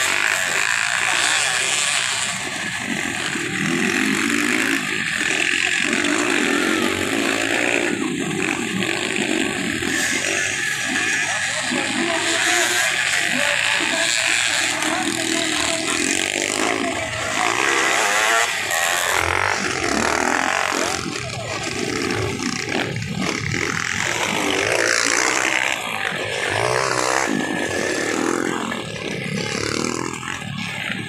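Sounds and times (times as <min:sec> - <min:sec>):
crowd voices: 0:00.0 - 0:31.0
dirt bike engines revving: 0:00.0 - 0:31.0.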